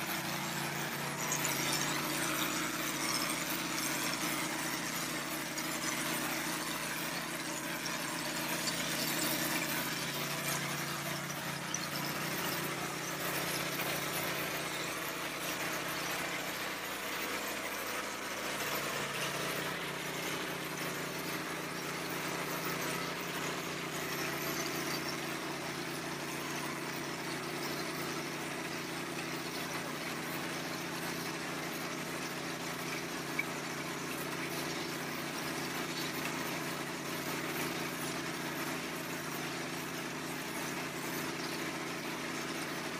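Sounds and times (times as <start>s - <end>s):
spraying machine hum: 0.0s - 42.8s.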